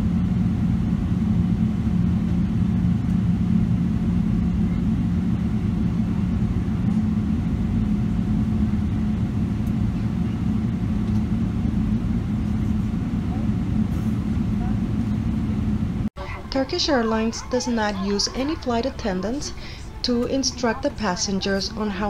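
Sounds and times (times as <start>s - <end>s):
airliner cabin hum: 0.0s - 22.0s.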